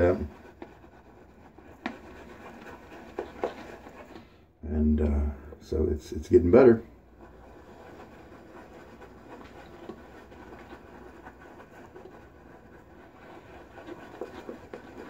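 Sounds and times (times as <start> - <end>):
shaving brush swishing lather: 0.0 - 4.3, 6.4 - 15.0.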